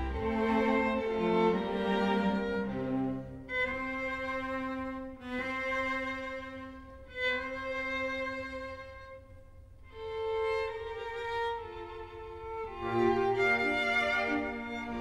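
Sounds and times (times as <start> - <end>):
slow string music: 0.0 - 15.0.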